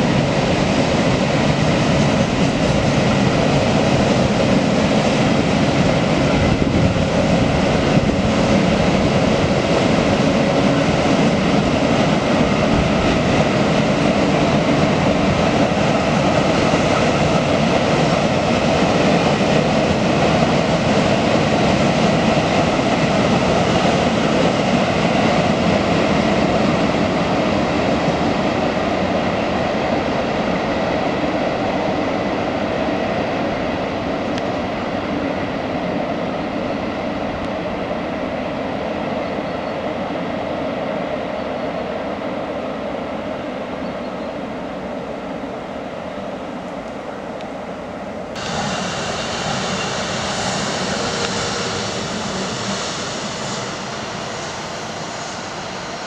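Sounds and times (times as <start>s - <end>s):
freight train wheels rumbling on rail: 0.0s - 56.0s.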